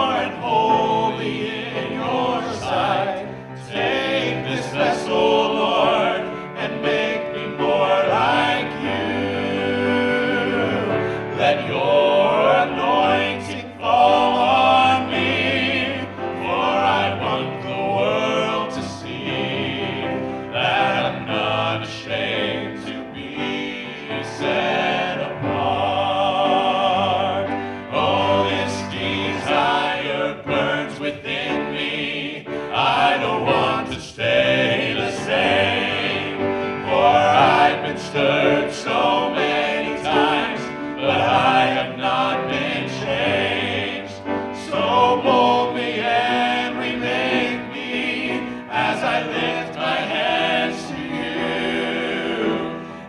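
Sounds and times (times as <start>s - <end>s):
low musical accompaniment: 0.0s - 53.0s
vocal group singing gospel harmony: 0.0s - 53.0s.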